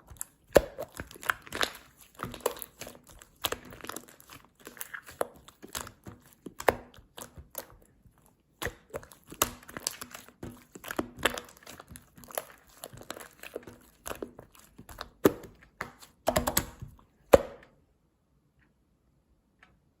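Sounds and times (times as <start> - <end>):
slime squishing with sticky pops: 0.0 - 17.6.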